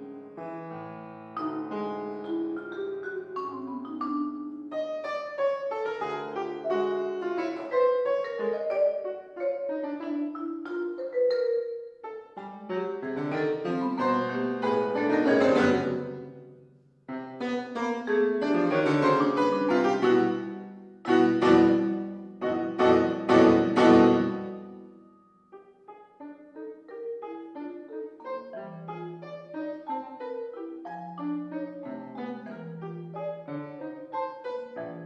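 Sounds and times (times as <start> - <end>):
piano and mallet percussion music: 0.0 - 16.6, 17.4 - 35.0.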